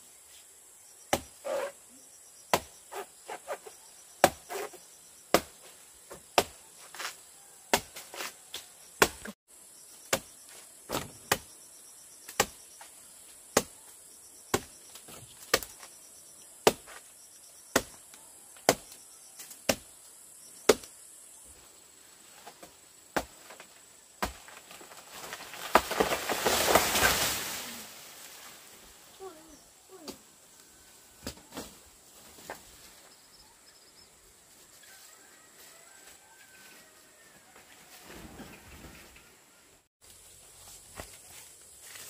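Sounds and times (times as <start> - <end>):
high buzz of insects: 0.0 - 34.5.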